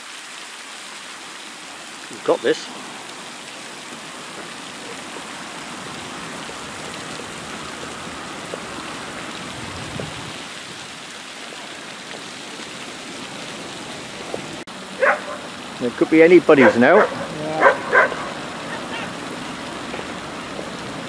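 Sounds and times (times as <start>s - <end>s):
fountain water splashing: 0.0s - 21.0s.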